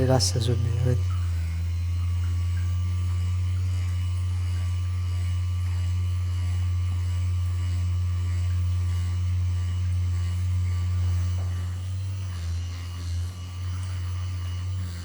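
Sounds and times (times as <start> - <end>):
vibration massager humming: 0.0 - 15.0.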